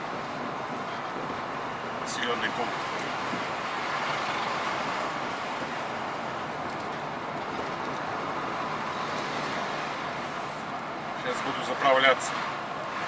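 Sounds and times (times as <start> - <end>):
truck engine and tyre drone: 0.0 - 13.0.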